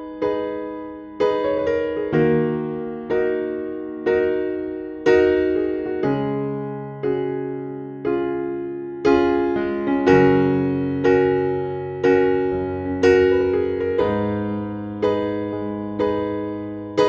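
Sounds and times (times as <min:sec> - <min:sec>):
slow gentle keyboard chords: 0:00.0 - 0:17.0.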